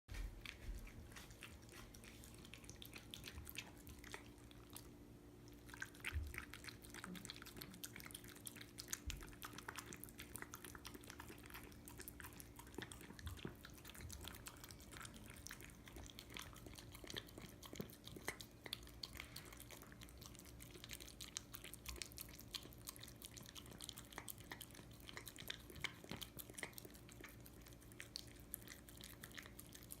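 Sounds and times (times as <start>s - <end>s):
dog chewing food: 0.1s - 30.0s
faint low hum: 0.1s - 30.0s.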